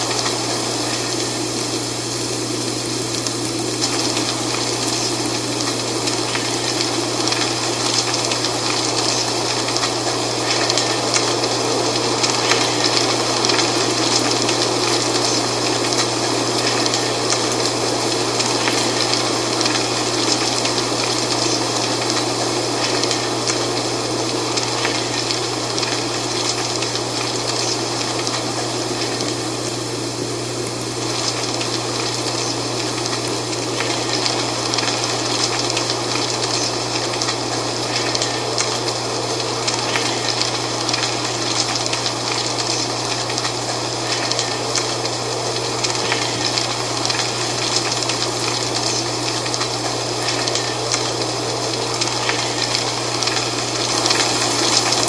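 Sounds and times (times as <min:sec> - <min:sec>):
dry leaves rustling in wind: 0:00.0 - 0:55.0.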